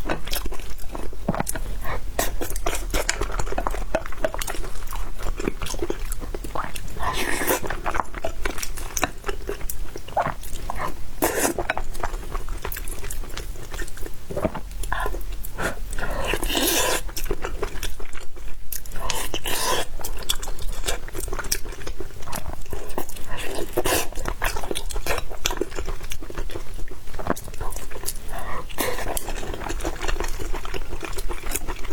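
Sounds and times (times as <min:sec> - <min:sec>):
wet chewing and lip smacks: 0:00.0 - 0:31.9.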